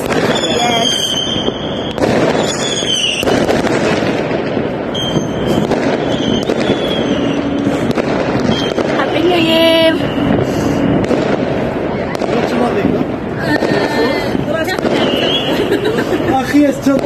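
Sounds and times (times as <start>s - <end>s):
firework whistles: 0.0s - 4.2s, 4.8s - 12.8s, 14.7s - 16.3s
firecrackers crackling: 0.0s - 17.0s.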